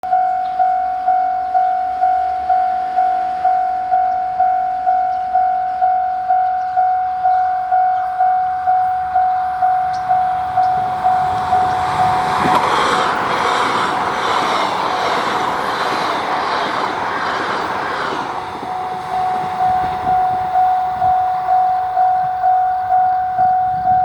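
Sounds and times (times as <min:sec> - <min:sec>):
level crossing alarm bell: 0:00.0 - 0:24.0
oncoming train noise: 0:00.1 - 0:24.0.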